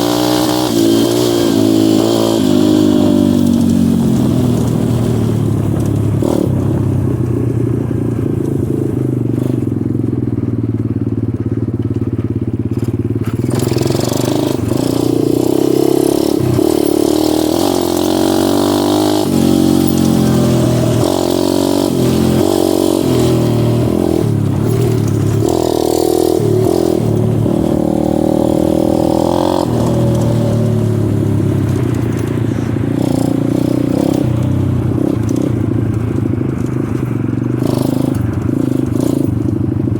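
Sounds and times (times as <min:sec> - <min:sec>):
dirt bike engine revving: 0:00.0 - 0:10.9, 0:12.1 - 0:39.9.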